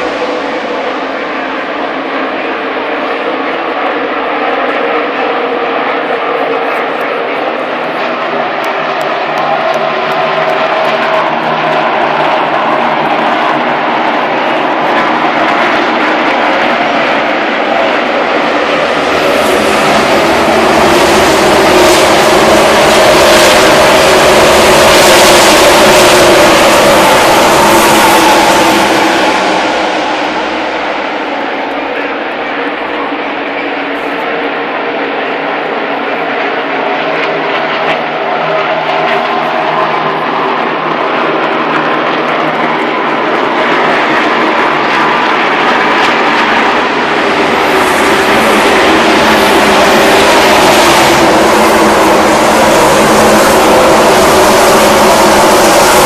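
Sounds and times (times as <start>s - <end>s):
race cars at full throttle: 0.0s - 56.0s.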